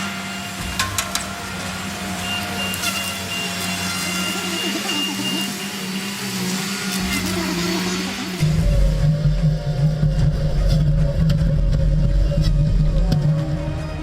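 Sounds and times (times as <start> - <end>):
heavy machine engine and hydraulics: 0.0 - 14.0.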